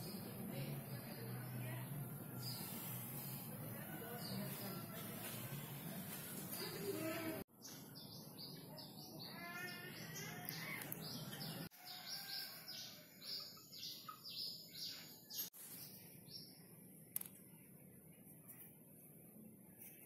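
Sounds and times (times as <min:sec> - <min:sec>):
small birds chirping: 0:00.0 - 0:18.6.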